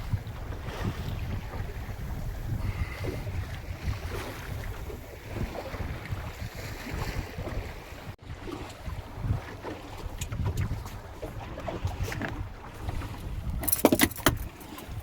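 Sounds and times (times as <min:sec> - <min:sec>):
water washing along boat hull: 0:00.0 - 0:15.0
wind buffeting microphone: 0:00.0 - 0:15.0.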